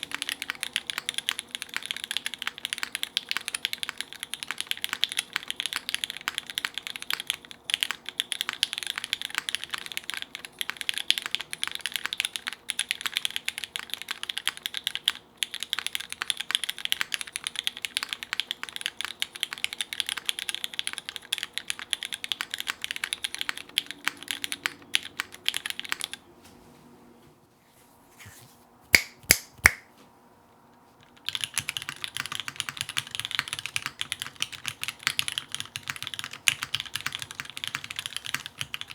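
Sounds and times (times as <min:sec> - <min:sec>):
fast mechanical keyboard typing: 0:00.0 - 0:26.2, 0:31.0 - 0:38.9.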